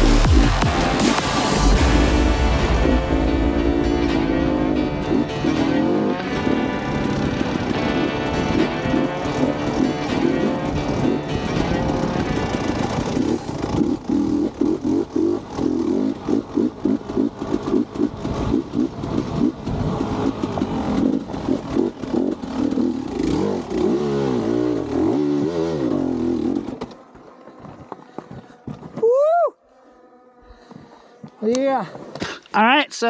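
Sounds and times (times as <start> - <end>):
dirt bike engine revving: 0.0 - 28.8.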